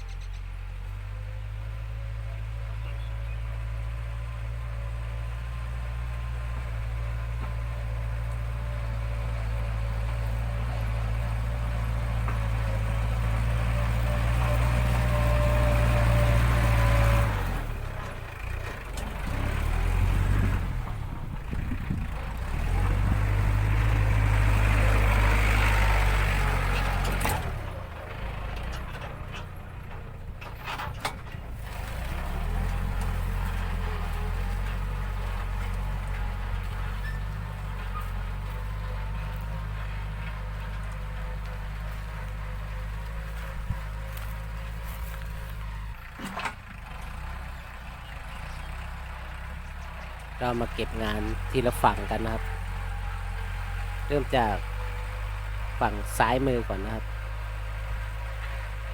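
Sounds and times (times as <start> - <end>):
tractor engine under load: 0.0 - 58.9.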